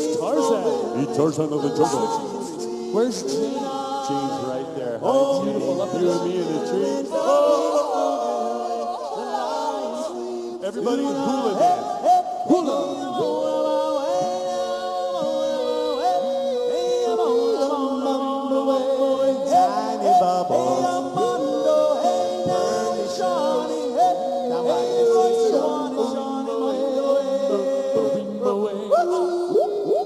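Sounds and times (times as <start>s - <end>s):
male group singing in harmony: 0.0s - 30.0s.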